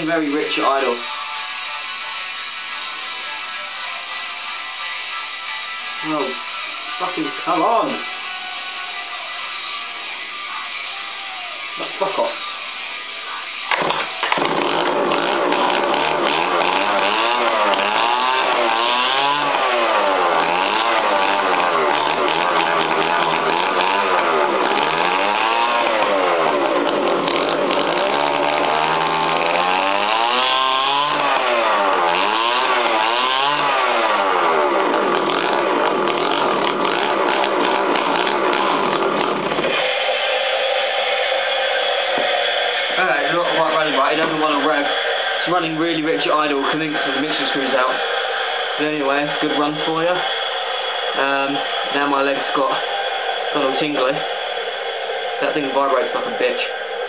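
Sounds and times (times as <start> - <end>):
two-stroke engine revving: 9.5 - 57.0.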